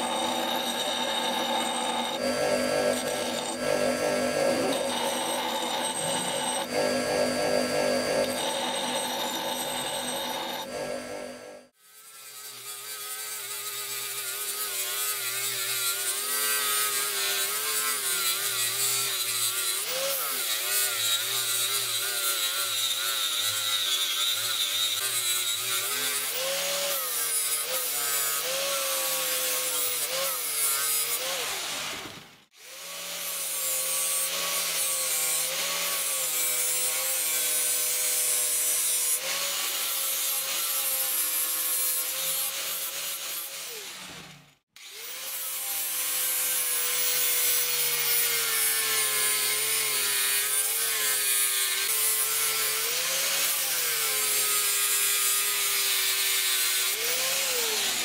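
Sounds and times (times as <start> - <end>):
angle grinder grinding metal: 0.0 - 58.0.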